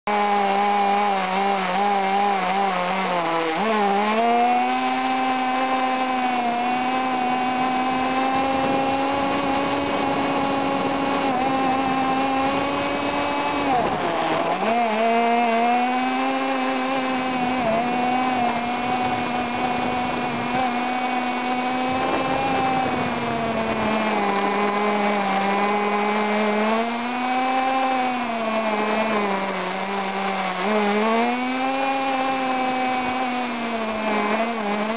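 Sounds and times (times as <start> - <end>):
small motor revving high: 0.1 - 34.9.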